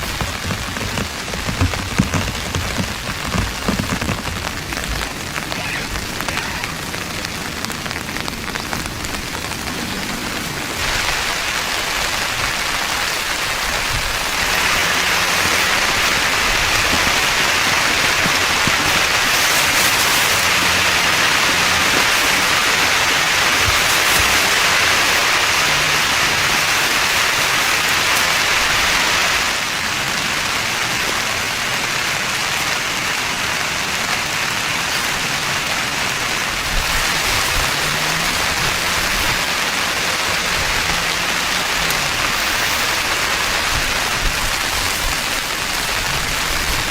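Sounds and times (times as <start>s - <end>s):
heavy rain on a tent roof: 0.0s - 46.9s.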